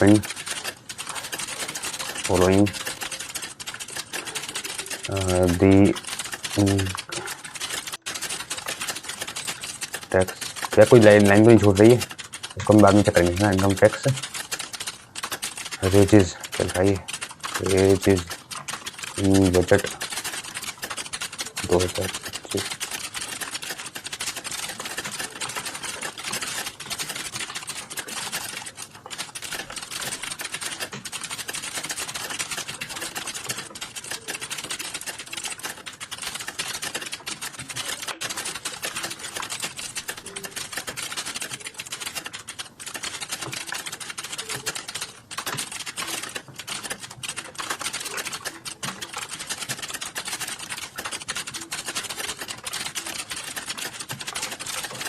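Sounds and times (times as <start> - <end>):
fast typing on computer keyboard: 0.0 - 55.0.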